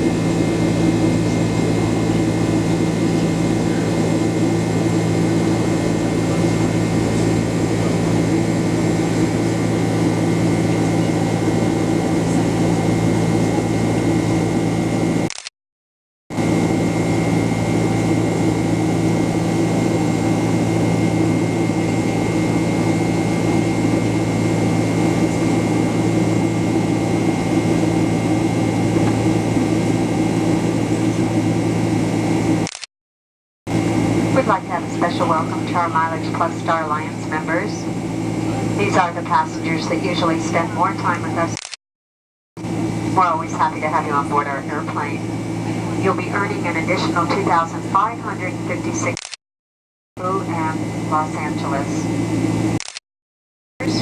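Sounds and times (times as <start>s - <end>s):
airliner cabin drone: 0.0s - 15.5s, 16.3s - 32.8s, 33.7s - 41.8s, 42.6s - 49.3s, 50.2s - 53.0s, 53.8s - 54.0s.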